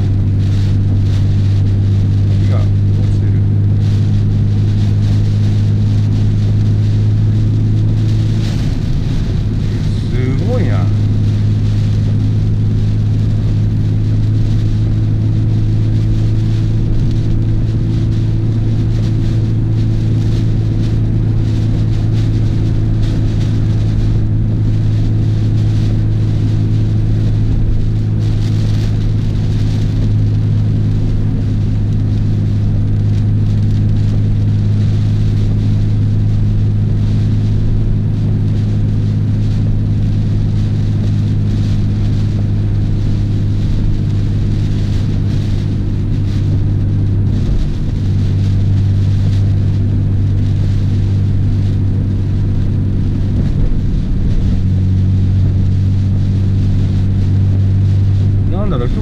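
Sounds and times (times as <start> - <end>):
car engine cruising: 0.0 - 59.0
rain and road spray hissing: 0.0 - 59.0.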